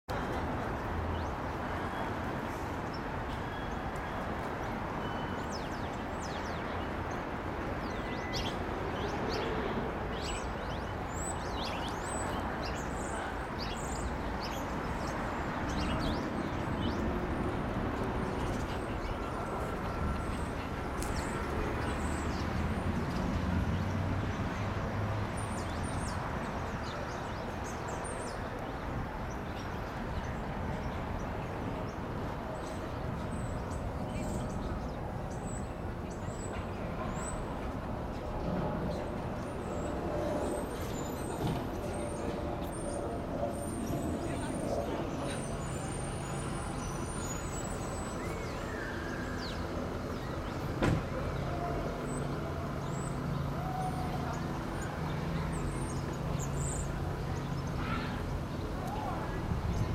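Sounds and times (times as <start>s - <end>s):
traffic hum: 0.1s - 59.9s.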